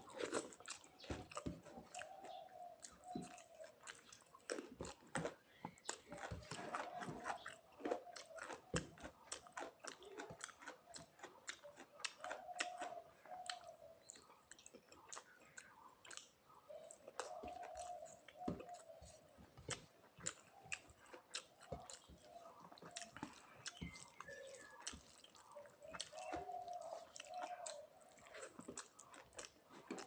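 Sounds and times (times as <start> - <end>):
person chewing food: 0.0 - 30.0
soft crunch: 0.0 - 30.0.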